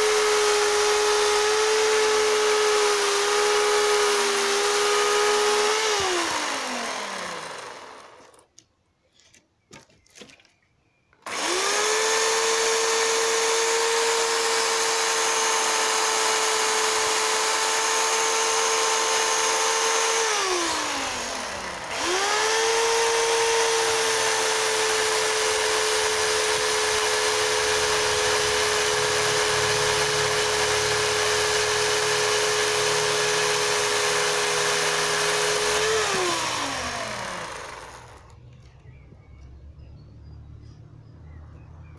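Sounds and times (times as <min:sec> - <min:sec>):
electric chainsaw motor whining: 0:00.0 - 0:08.4, 0:11.2 - 0:38.4
chainsaw cutting into log: 0:00.0 - 0:08.5, 0:11.2 - 0:38.4.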